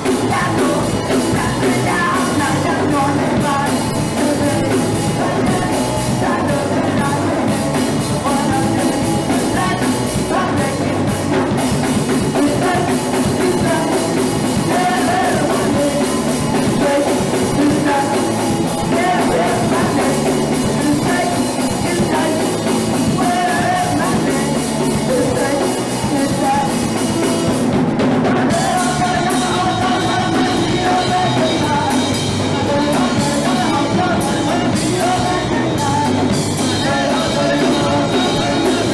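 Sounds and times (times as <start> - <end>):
drum kit: 0.0 - 38.9
person singing: 0.0 - 38.9
punk rock band playing: 0.0 - 38.9.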